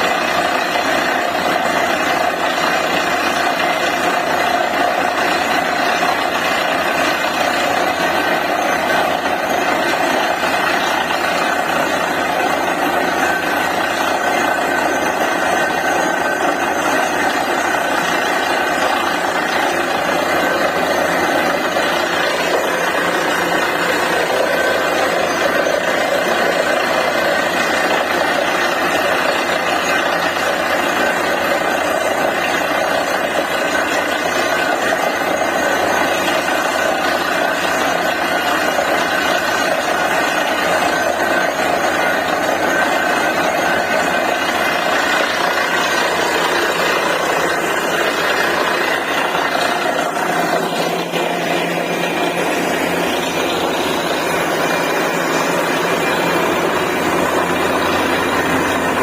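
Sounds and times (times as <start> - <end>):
drilling rig running: 0.0 - 59.0.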